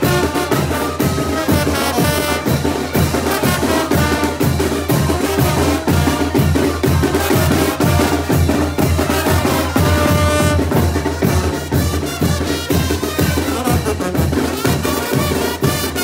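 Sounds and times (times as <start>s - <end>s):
brass band playing: 0.0s - 16.0s
drum beat: 0.0s - 16.0s.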